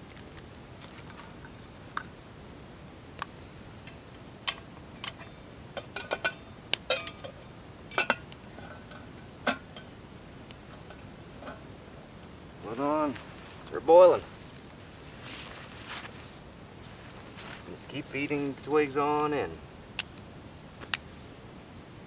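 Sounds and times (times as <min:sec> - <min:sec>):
twig fire crackling in a stove: 0:00.0 - 0:22.0.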